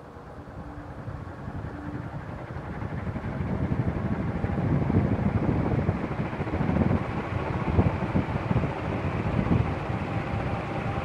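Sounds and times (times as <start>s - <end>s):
ceiling fan air rush: 0.0s - 11.0s.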